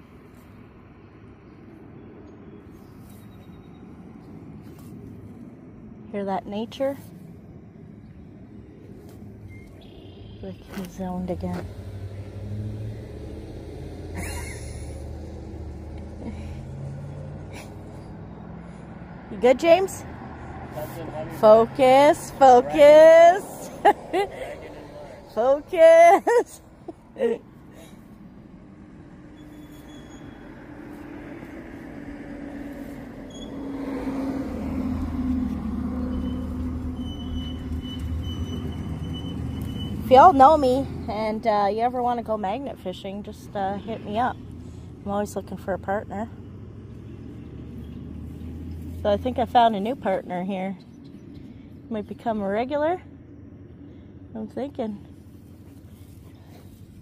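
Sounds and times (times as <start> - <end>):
traffic engine drone: 0.0 - 57.0.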